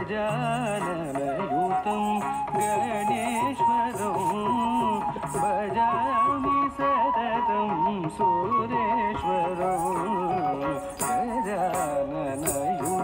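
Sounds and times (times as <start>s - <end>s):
instrumental accompaniment: 0.0s - 13.0s
person singing ornamented melody: 0.0s - 13.0s.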